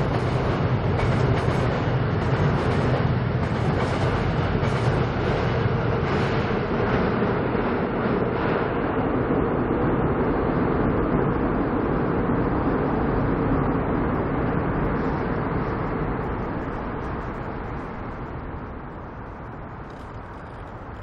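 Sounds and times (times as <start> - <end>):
train rumbling with humming tone: 0.0 - 21.0.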